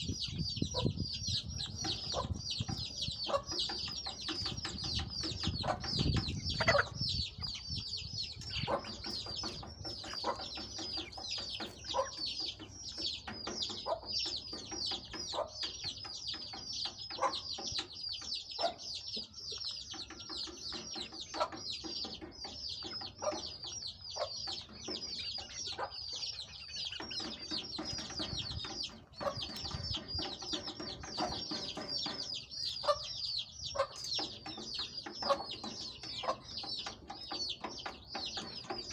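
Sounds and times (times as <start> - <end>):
chickens clucking: 0.0 - 38.9
chicks peeping: 0.0 - 38.9.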